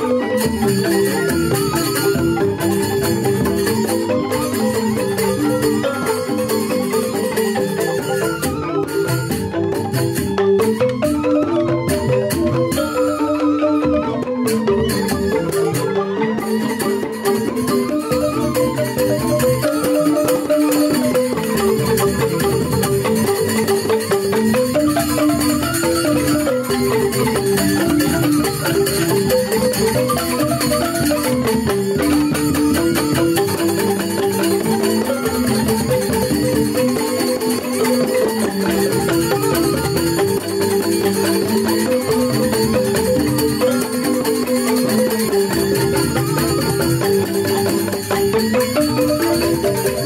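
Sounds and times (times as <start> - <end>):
bamboo flute: 0.0 - 50.0
bamboo xylophones playing: 0.0 - 50.0
percussion: 0.0 - 50.0.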